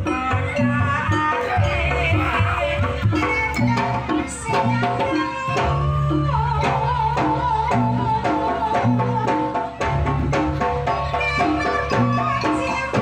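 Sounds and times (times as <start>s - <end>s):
high held melody line: 0.0s - 13.0s.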